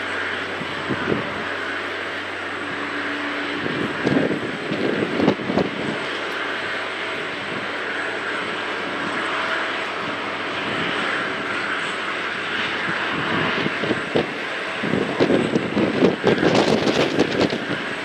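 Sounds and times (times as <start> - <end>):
jet engines hissing and whining: 0.0 - 18.0.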